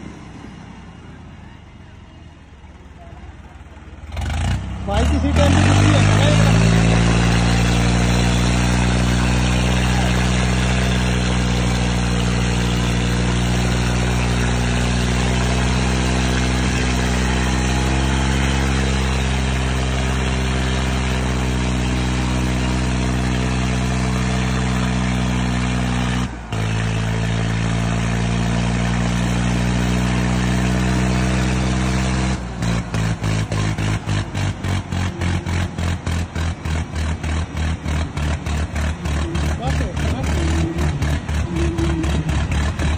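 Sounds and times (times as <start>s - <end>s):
tractor diesel engines labouring: 0.0s - 42.9s.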